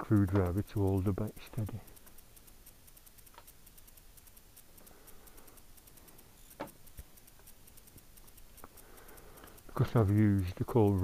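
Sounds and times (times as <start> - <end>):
faint high ticking: 0.0 - 11.0
sharp click: 0.0 - 11.0.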